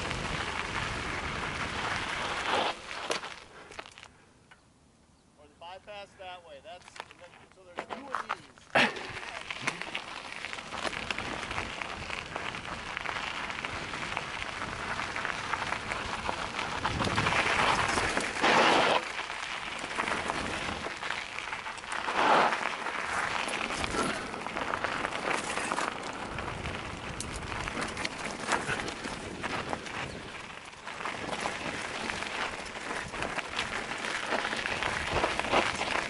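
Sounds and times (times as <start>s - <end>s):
bike tyres rattling on gravel: 0.0s - 4.2s, 6.7s - 36.0s.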